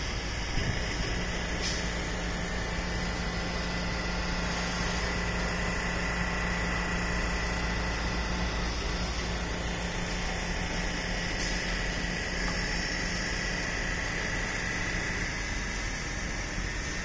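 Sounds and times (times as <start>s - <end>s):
machinery low hum: 0.0s - 17.0s.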